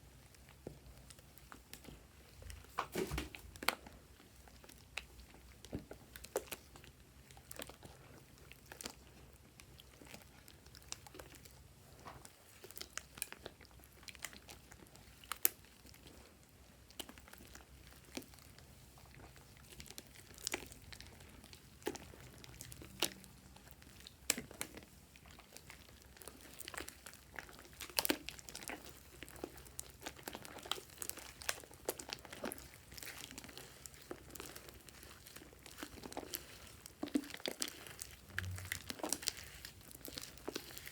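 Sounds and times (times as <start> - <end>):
crinkling: 0.3 - 40.9
slime crackling and popping: 0.5 - 16.2, 16.8 - 40.9.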